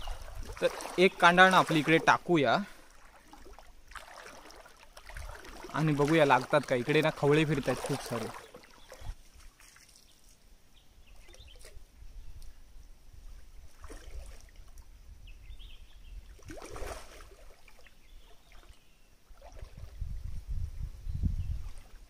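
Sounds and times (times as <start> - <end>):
water splashing in a stream: 0.0 - 12.5, 13.2 - 15.0, 16.0 - 20.4, 21.4 - 22.0.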